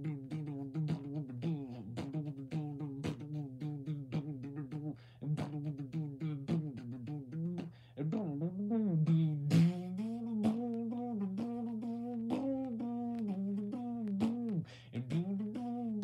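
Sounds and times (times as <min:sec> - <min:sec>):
clicking mouth sounds: 0:00.0 - 0:16.0
person humming: 0:00.0 - 0:16.0.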